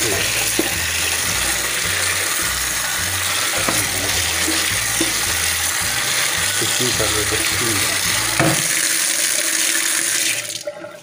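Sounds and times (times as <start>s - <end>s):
tap water splashing into sink: 0.0s - 11.0s.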